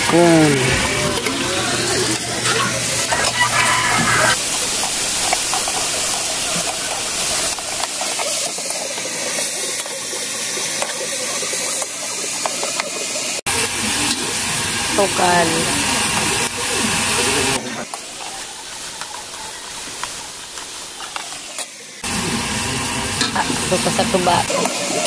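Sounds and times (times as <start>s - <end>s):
paste sizzling in hot oil: 3.2s - 25.0s.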